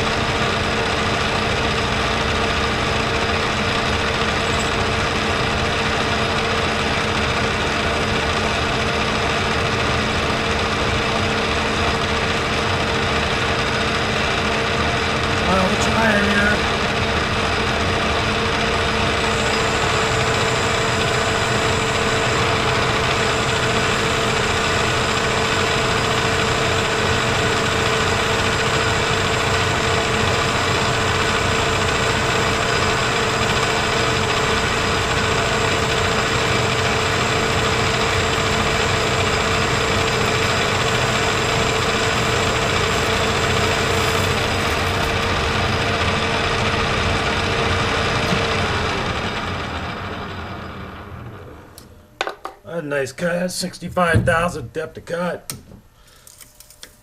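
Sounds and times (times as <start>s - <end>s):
metal lathe cutting: 0.0s - 51.7s.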